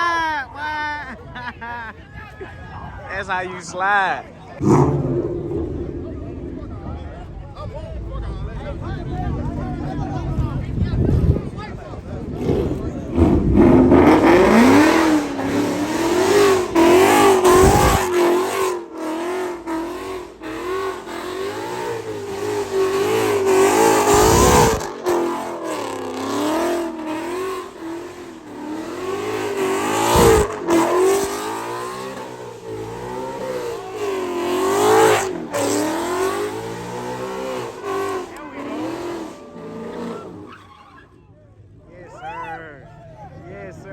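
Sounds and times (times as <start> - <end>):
car engine revving: 4.6 - 40.7.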